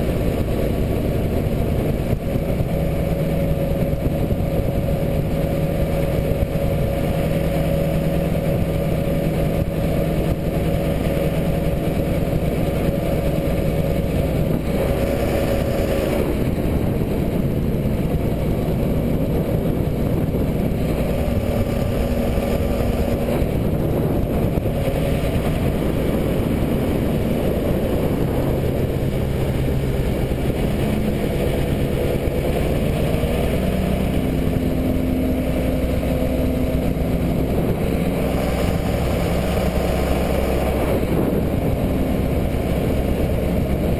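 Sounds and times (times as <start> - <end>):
boat motor running: 0.0 - 43.9.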